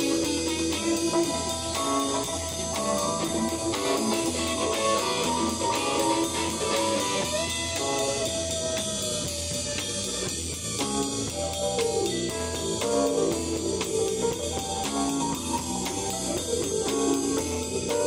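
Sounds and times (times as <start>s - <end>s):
drum kit: 0.0s - 18.0s
electric keyboard melody: 0.0s - 18.0s.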